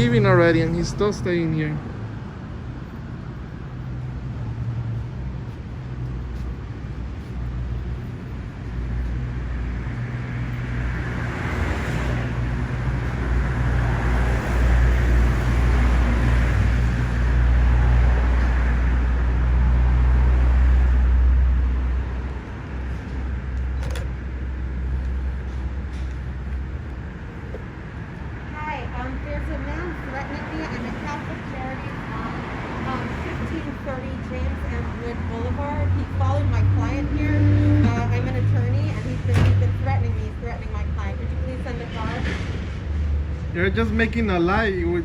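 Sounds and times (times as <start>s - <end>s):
traffic engine rumble: 0.0s - 45.0s.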